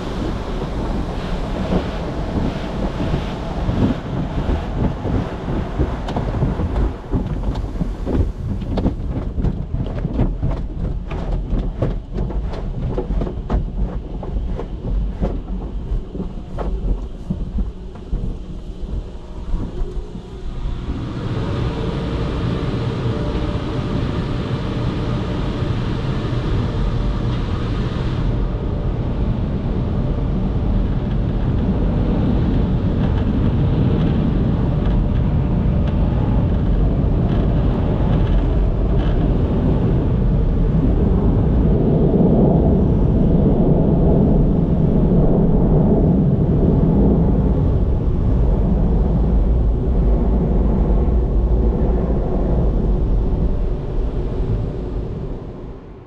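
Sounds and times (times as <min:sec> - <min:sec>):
car wash dryers blowing: 0:00.0 - 0:56.0.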